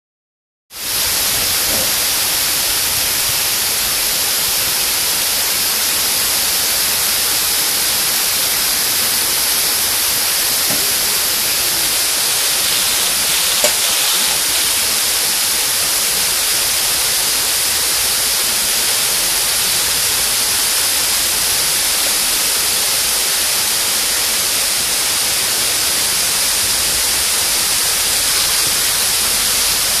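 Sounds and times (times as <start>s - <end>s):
waterfall rushing: 0.8s - 30.0s.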